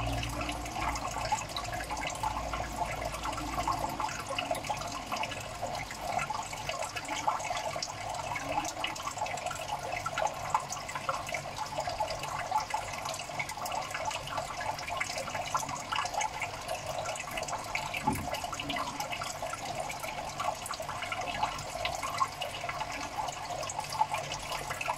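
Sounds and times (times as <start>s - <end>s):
water trickling and bubbling: 0.0s - 24.9s.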